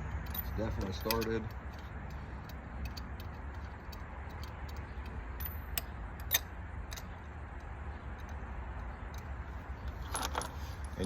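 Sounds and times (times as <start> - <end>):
metallic clicks of hand tools: 0.2 - 9.3.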